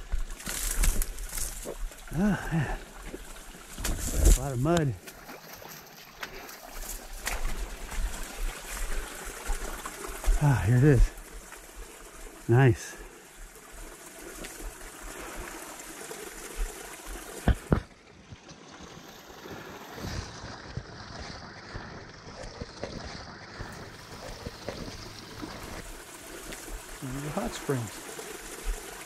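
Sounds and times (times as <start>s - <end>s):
water trickling in pool: 0.0s - 29.0s.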